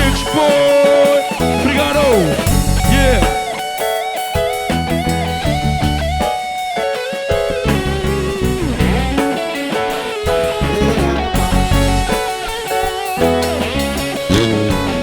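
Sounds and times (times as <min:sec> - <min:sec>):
bass guitar: 0:00.0 - 0:15.0
drum kit: 0:00.0 - 0:15.0
electric guitar bending notes: 0:00.0 - 0:15.0.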